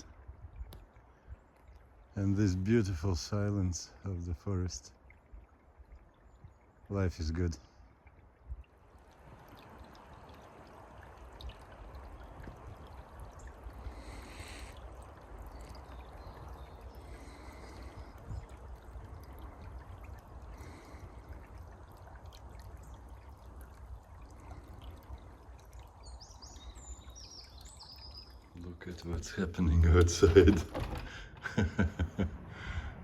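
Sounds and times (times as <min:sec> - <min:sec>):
stream trickling: 0:00.0 - 0:33.0.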